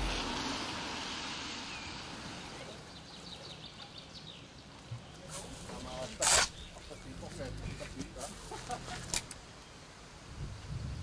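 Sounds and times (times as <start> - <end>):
steady outdoor noise: 0.0 - 11.0.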